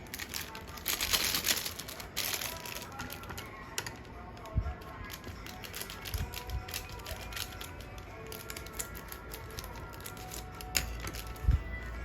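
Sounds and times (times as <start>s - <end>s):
utensils clicking and tapping: 0.0s - 11.6s
faint background music: 0.0s - 12.0s.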